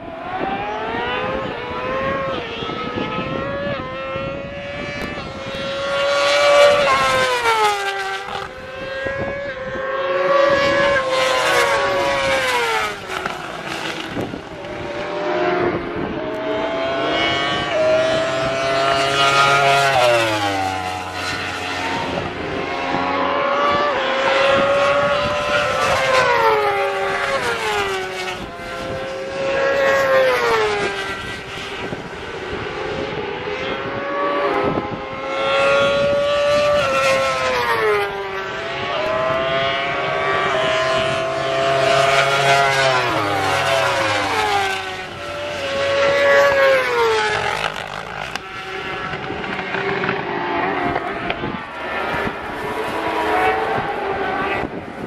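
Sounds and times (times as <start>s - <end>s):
racing motorcycles passing at speed: 0.0s - 55.0s.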